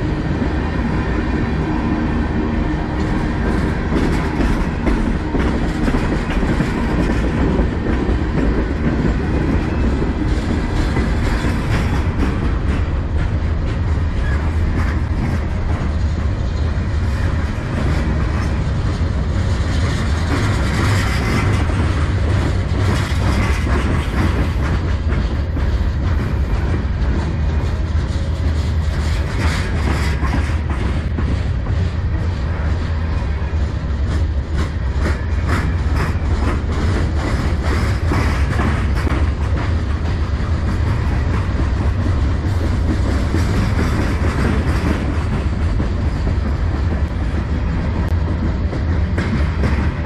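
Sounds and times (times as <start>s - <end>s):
freight train wheels rumbling: 0.0s - 50.0s
wheels clicking over rail joints: 2.9s - 33.1s, 33.8s - 50.0s.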